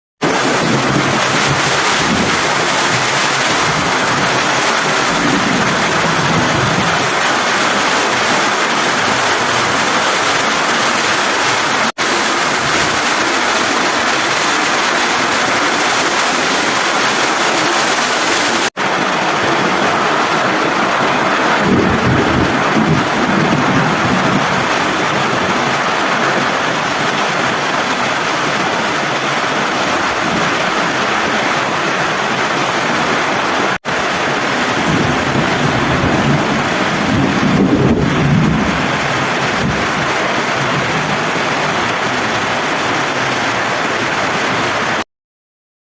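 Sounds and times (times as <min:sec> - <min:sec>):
strong wind: 0:00.2 - 0:45.0
heavy rain pouring: 0:00.2 - 0:45.1.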